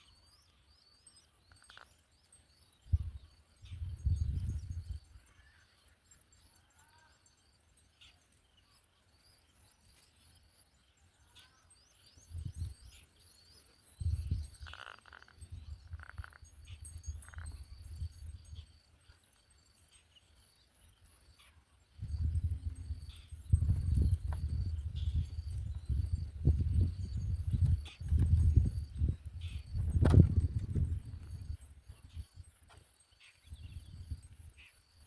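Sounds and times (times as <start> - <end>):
faint bird chirps: 0.0 - 35.0.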